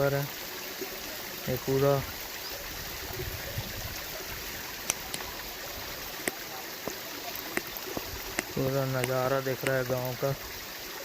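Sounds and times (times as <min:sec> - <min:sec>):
running water from waterfall: 0:00.0 - 0:11.0.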